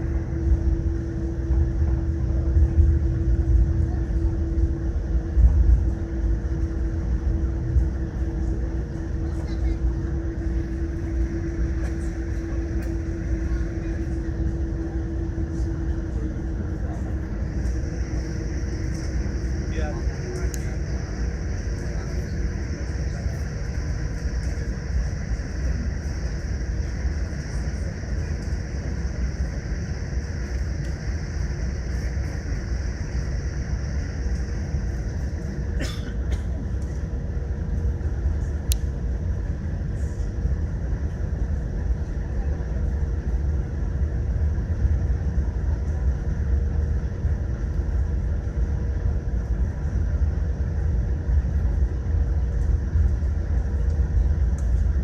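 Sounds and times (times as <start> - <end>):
aircraft cabin rumble: 0.0 - 55.0
mid-pitched hum: 0.0 - 55.0.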